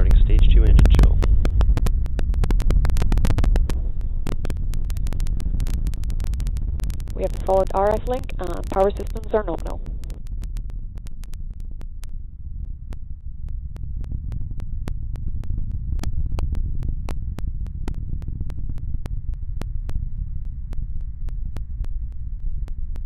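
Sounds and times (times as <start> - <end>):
rocket engines rumbling and crackling: 0.0 - 23.0.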